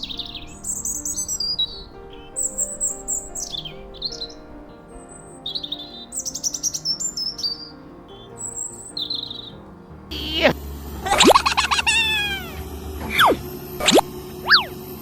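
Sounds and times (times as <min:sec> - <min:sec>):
small birds chirping and trilling: 0:00.0 - 0:15.0
soft background music: 0:00.0 - 0:15.0.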